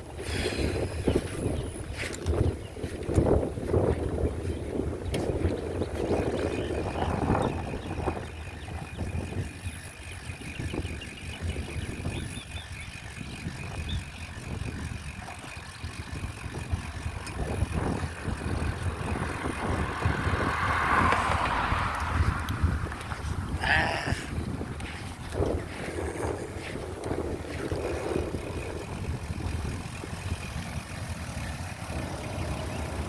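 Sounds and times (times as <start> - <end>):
bicycle rolling: 0.0 - 33.0
wind on microphone: 0.0 - 33.0.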